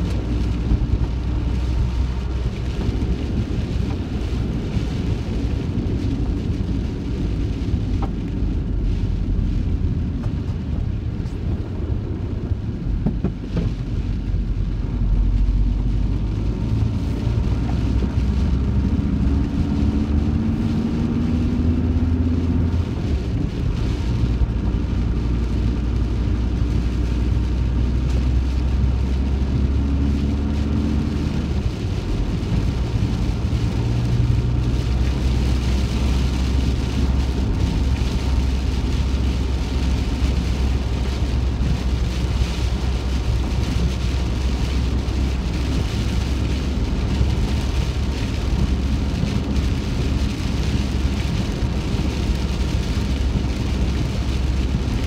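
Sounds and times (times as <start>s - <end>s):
engine and road rumble: 0.0s - 55.0s
heavy rain on van roof: 0.0s - 55.0s.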